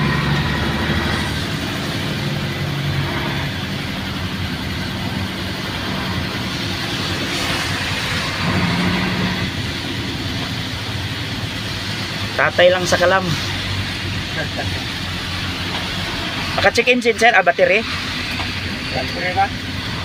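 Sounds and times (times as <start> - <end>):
diesel truck engine running: 0.0 - 20.0
rain and tyres on wet road: 0.0 - 20.0.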